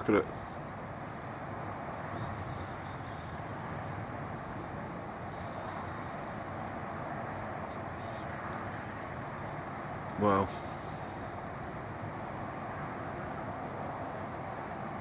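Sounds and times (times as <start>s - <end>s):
distant city traffic hum: 0.0s - 15.0s.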